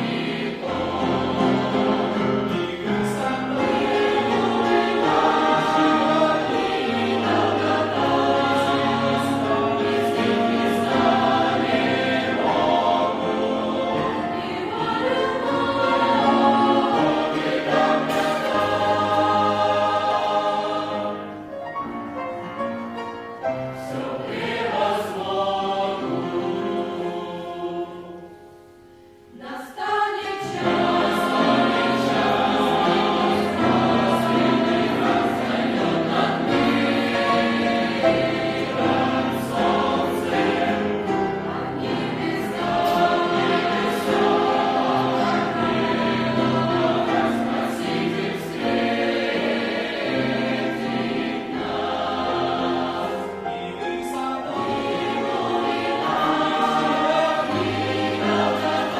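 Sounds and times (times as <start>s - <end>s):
youth choir singing a hymn: 0.0s - 21.5s, 23.5s - 58.9s.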